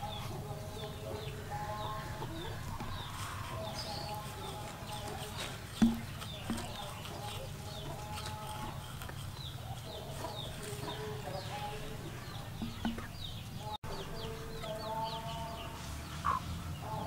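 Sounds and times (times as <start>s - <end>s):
birds chirping: 0.0s - 17.0s
low held bird calls: 0.0s - 17.0s.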